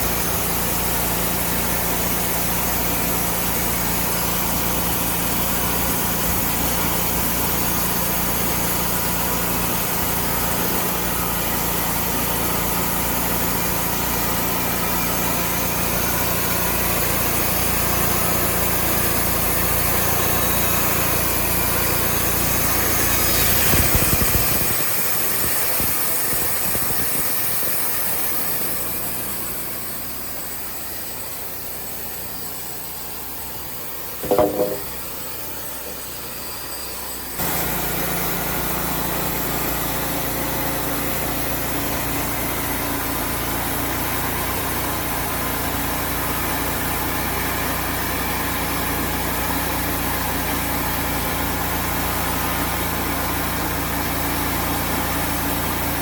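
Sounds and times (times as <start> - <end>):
band sawmill sawing logs: 0.0 - 36.4, 37.1 - 56.0.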